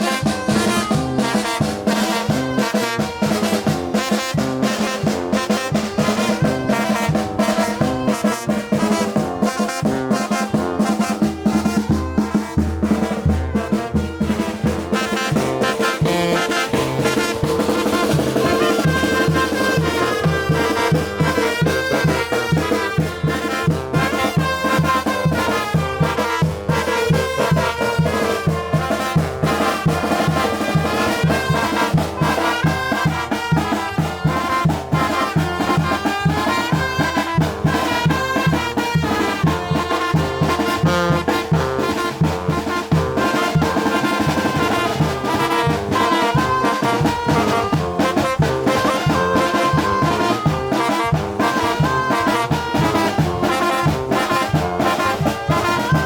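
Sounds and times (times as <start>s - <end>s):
drums: 0.0s - 56.0s
trumpets and trombones melody: 0.0s - 56.0s.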